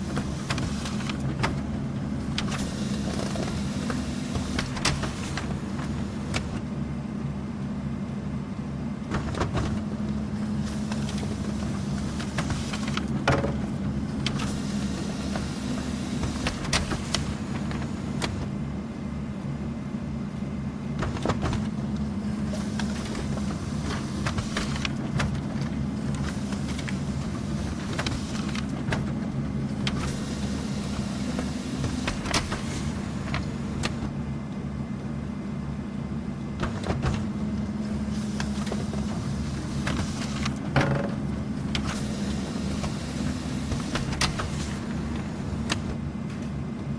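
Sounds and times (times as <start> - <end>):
paper feed clicks: 0.0 - 6.6, 9.1 - 18.5, 21.0 - 34.2, 36.5 - 46.5
printer motor hum: 0.0 - 46.9.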